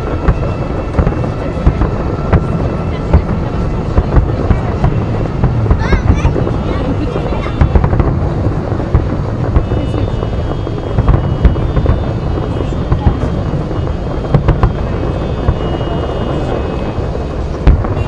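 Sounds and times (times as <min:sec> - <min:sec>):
low rumble of fireworks: 0:00.0 - 0:18.0
sharp firework bangs: 0:00.0 - 0:18.0.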